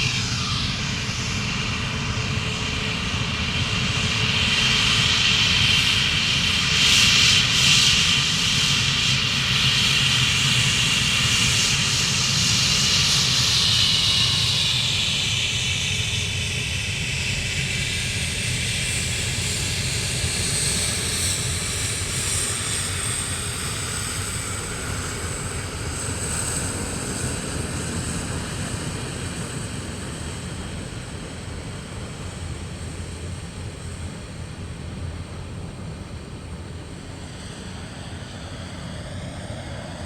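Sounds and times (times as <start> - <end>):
aircraft engines whining: 0.0 - 40.0.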